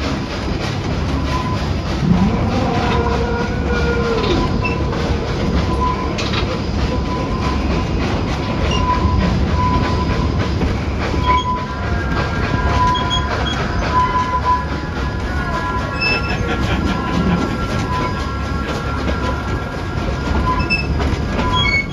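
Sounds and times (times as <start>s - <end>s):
train wheels rumbling on rail: 0.0s - 21.9s
high wheel squeal: 1.0s - 21.9s.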